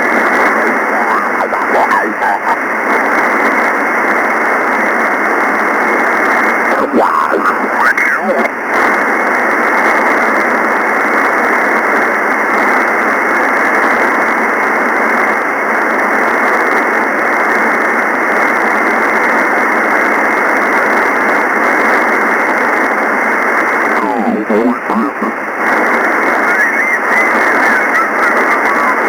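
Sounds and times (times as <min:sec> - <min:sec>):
radio receiver static hiss: 0:00.0 - 0:29.0.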